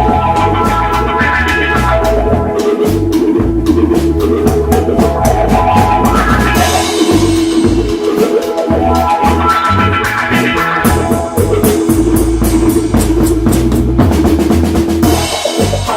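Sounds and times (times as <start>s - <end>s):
bass line: 0.0s - 15.9s
drum kit beat: 0.0s - 15.9s
held chords: 0.0s - 15.9s.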